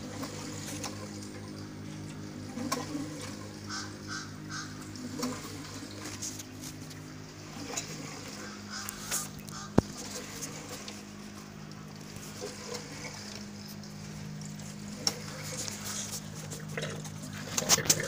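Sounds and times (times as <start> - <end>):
small air pump humming: 0.0 - 18.0
water bubbling and fizzing: 0.0 - 18.0.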